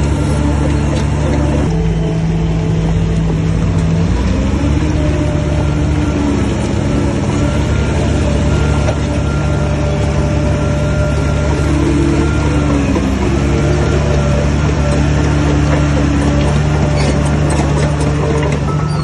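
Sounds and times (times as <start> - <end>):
heavy diesel engine under load: 0.0 - 19.0.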